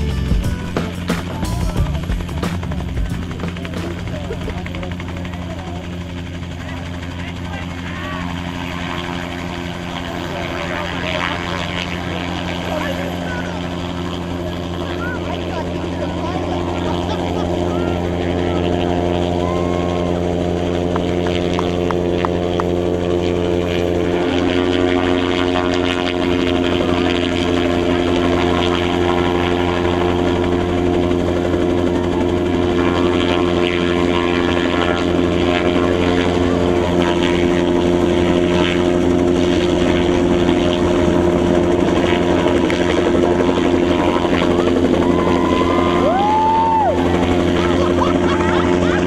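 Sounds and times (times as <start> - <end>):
helicopter rotor and engine drone: 0.0 - 49.0.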